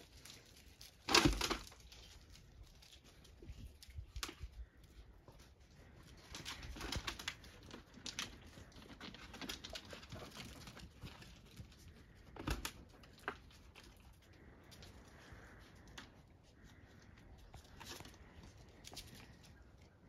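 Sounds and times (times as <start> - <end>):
puppies' paws clicking: 0.0 - 20.0.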